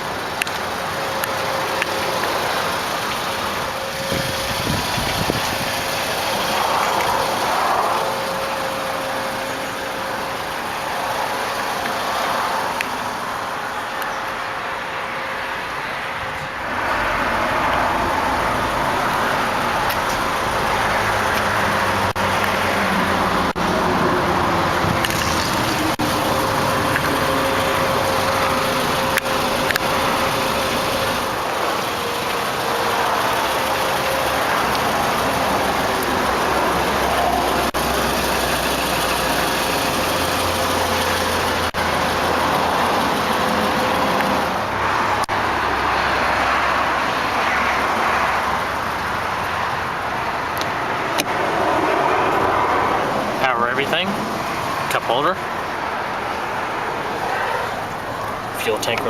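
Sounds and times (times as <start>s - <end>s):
car engine idling: 0.0s - 59.0s
road traffic passing: 0.0s - 59.0s.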